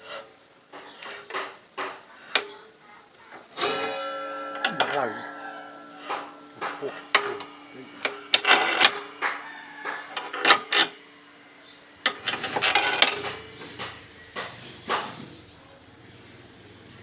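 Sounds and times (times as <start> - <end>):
workshop tools clattering: 0.0 - 2.6, 3.3 - 15.5.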